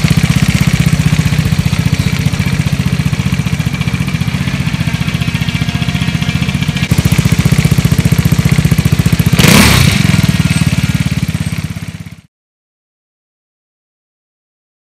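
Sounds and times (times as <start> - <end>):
scooter engine pulsing exhaust: 0.0 - 12.3.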